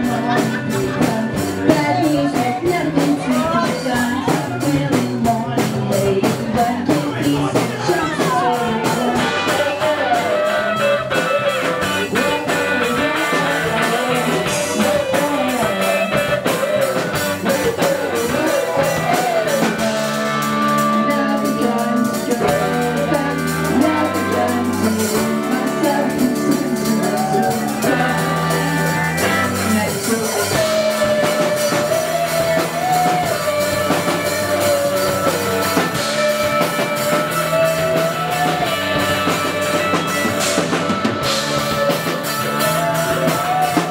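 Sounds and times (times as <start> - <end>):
drum kit: 0.0 - 43.9
electric bass: 0.0 - 43.9
electric guitar: 0.0 - 43.9.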